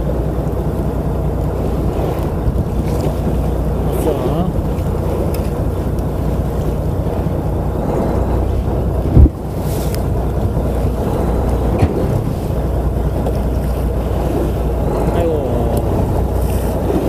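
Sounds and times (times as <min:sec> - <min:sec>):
boat engine rumble: 0:00.0 - 0:17.0
waves against hull: 0:00.0 - 0:17.0
wind buffeting microphone: 0:00.0 - 0:17.0.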